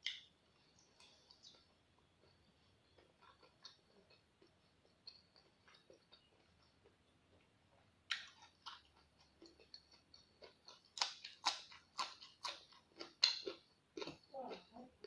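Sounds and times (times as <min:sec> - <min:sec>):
person chewing crunchy vegetables: 0:00.0 - 0:15.0.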